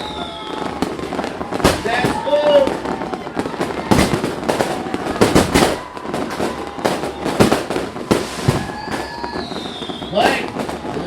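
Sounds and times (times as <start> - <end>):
fireworks and firecrackers banging: 0.0 - 11.0.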